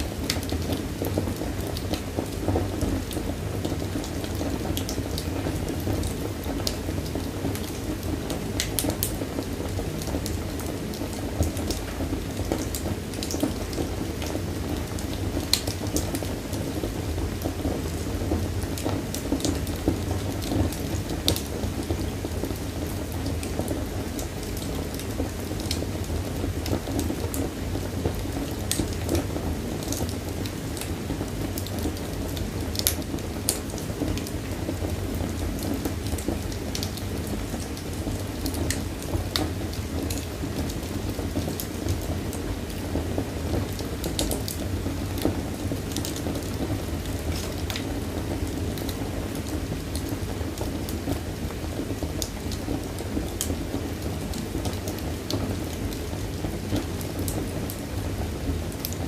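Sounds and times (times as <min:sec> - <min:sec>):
flames rushing: 0:00.0 - 0:59.0
wood crackles and pops: 0:00.0 - 0:59.0.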